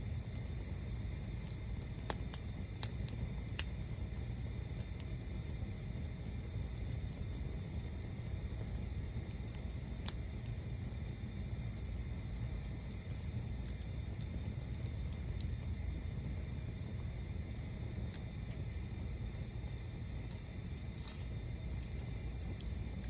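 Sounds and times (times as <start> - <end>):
bonfire crackling and popping: 0.0 - 23.0
low fire rumble: 0.0 - 23.0.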